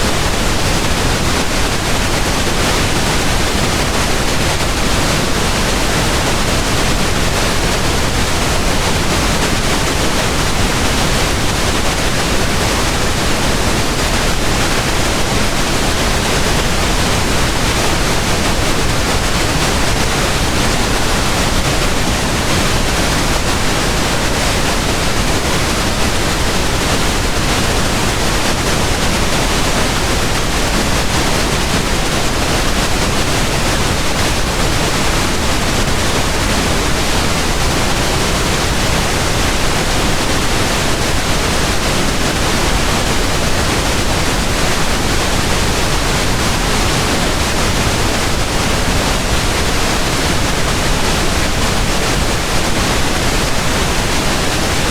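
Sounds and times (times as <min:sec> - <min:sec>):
pink noise hiss: 0:00.0 - 0:54.9.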